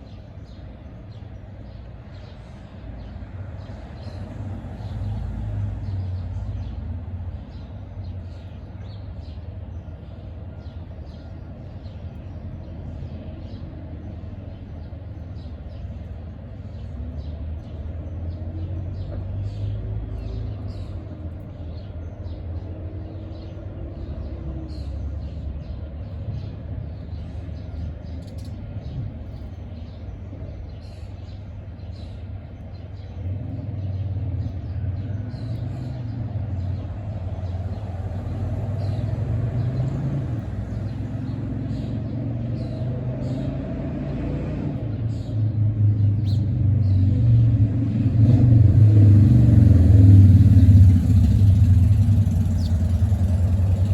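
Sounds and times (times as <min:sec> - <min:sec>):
small birds chirping: 0:00.0 - 0:47.6, 0:48.2 - 0:53.9.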